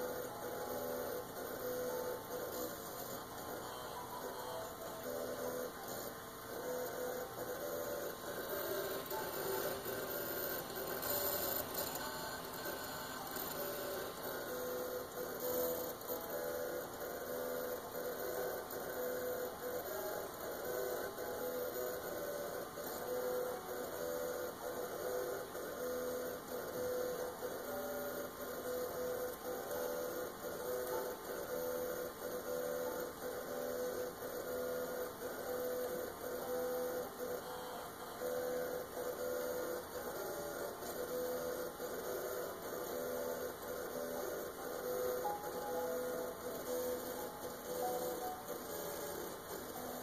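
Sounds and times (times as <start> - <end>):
hard drive hum and whine: 0.0 - 50.0.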